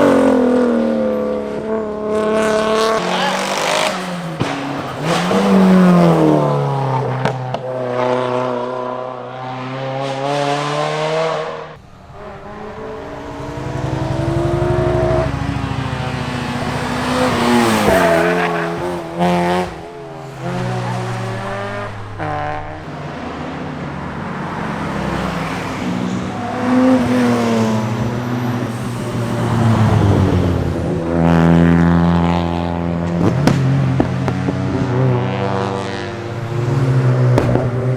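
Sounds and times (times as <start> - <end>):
performance cars driving past: 0.0 - 37.9.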